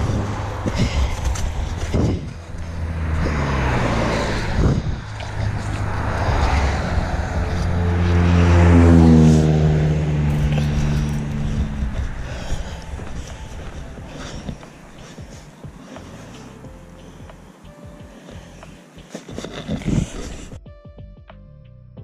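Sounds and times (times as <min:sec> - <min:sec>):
cars passing: 0:00.0 - 0:20.6
low engine hum: 0:00.0 - 0:20.6.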